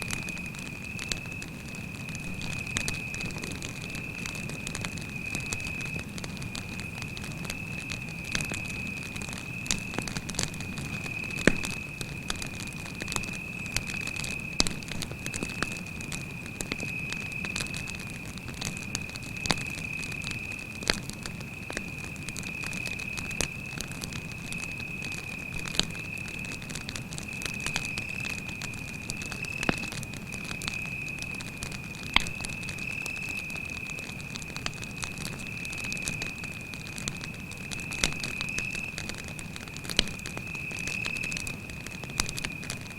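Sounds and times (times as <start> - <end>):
campfire crackling and popping: 0.0 - 42.9
cricket chirring: 0.0 - 42.9.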